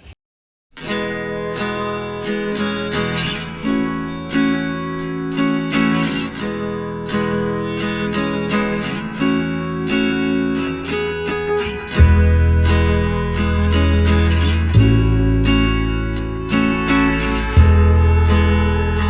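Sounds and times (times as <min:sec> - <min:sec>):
strummed acoustic guitar: 0:00.8 - 0:19.0.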